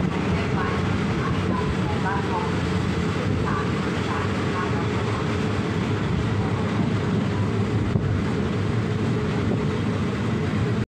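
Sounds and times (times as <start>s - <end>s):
train diesel engine rumbling: 0.0s - 10.8s.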